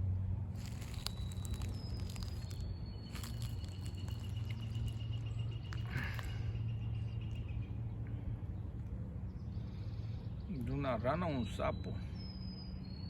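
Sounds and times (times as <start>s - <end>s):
steady low rumble: 0.0s - 10.5s.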